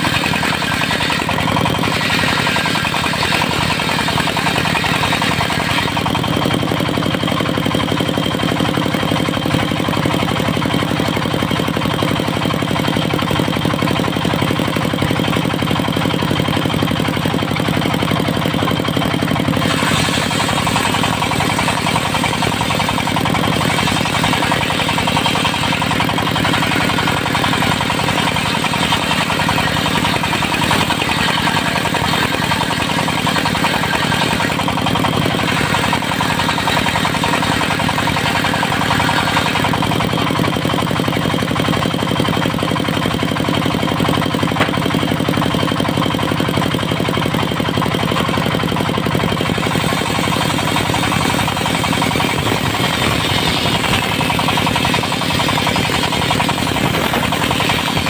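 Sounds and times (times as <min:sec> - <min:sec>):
circular saw ripping timber: 0:00.0 - 0:58.0
diesel engine running: 0:00.0 - 0:58.0.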